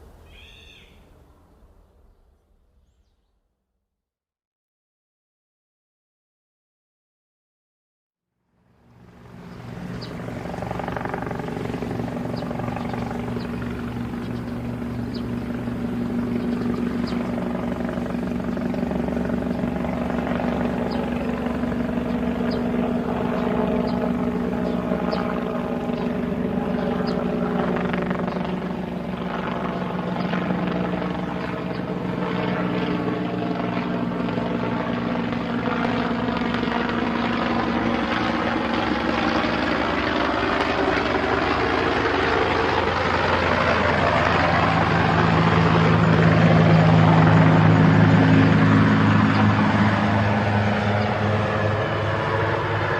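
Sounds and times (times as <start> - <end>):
helicopter rotor chopping: 8.6 - 52.9.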